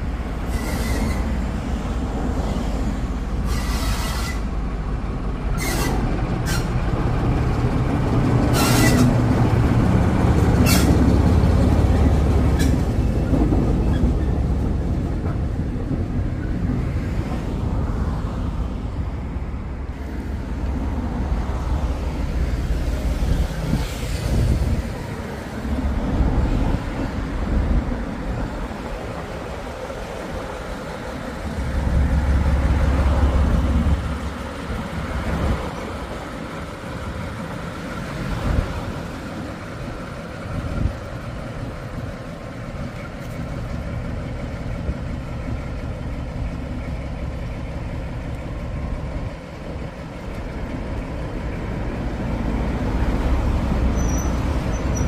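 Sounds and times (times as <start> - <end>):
diesel locomotive engines rumbling: 0.0 - 55.0.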